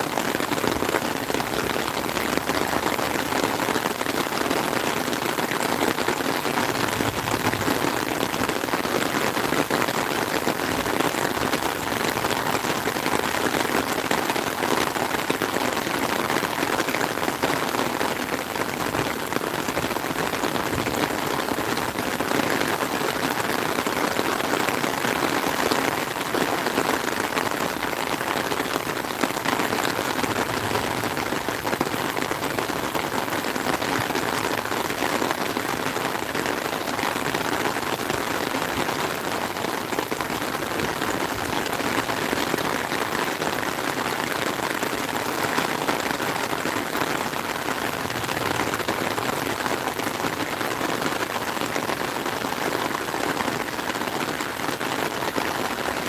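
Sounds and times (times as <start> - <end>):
heavy rain on water: 0.0 - 56.0.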